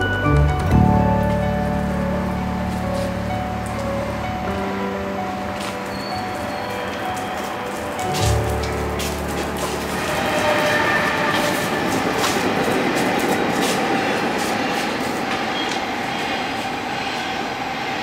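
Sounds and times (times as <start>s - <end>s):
steady rushing noise: 1.6s - 18.0s.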